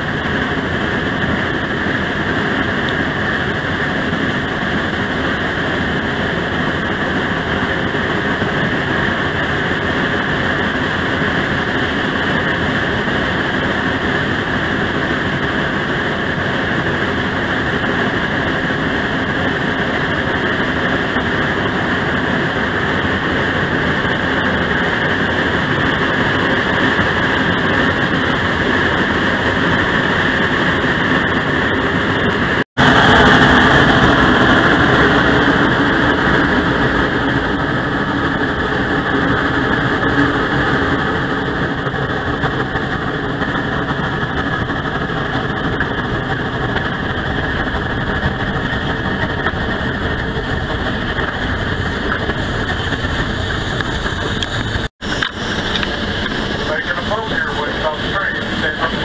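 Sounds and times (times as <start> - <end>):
steam train rumble and rattle: 0.0 - 59.0.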